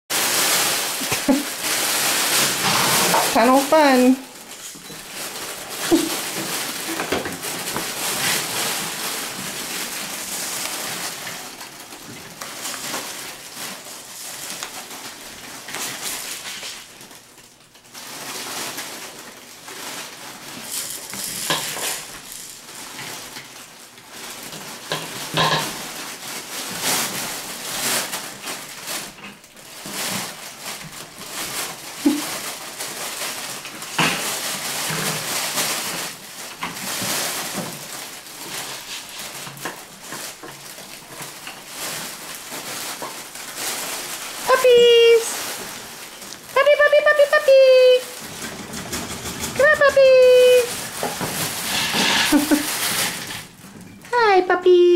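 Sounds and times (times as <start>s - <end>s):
crinkling and rustling paper: 0.1s - 54.9s.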